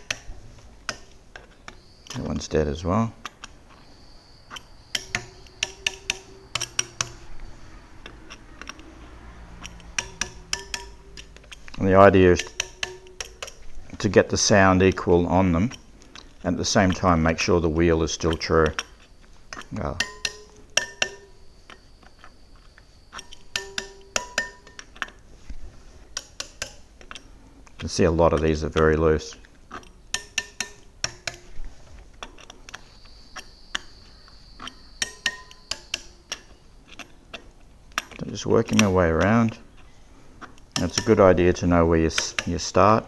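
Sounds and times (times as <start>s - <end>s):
metal tool tapping wheel spokes: 0.0s - 43.0s.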